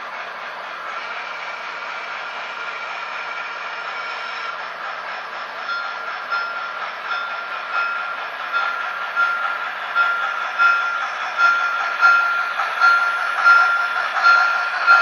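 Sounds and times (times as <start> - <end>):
steam locomotive chuffing beat: 0.0 - 15.0.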